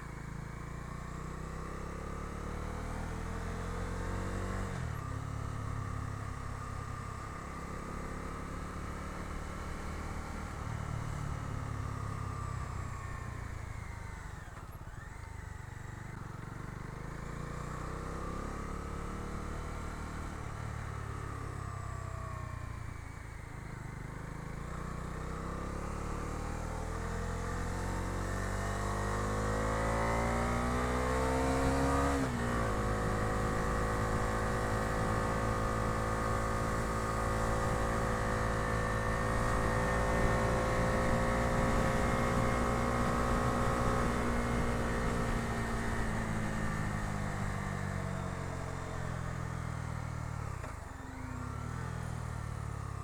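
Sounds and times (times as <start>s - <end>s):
motorcycle engine accelerating: 0.6s - 53.0s.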